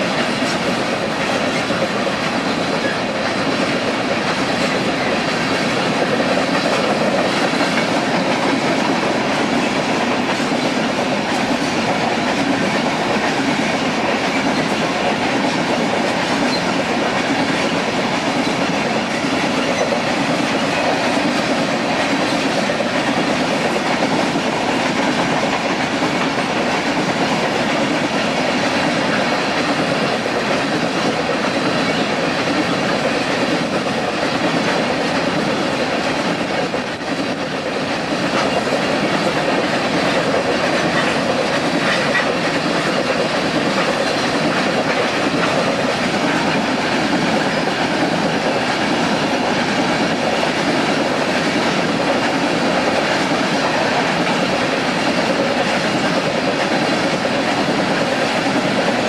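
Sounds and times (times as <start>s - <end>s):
clickety-clack of wheels: 0.0s - 59.0s
freight train rumbling past: 0.0s - 59.0s.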